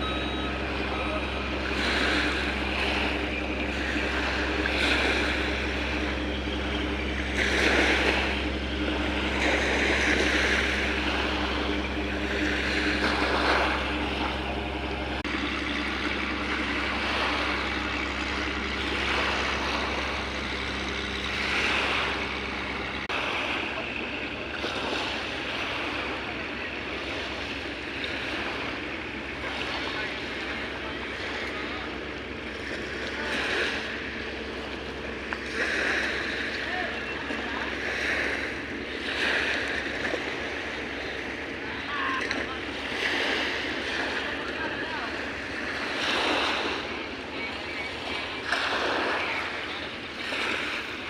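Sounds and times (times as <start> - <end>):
motorboat engine droning: 0.0 - 51.0
water rushing and splashing: 0.0 - 51.0.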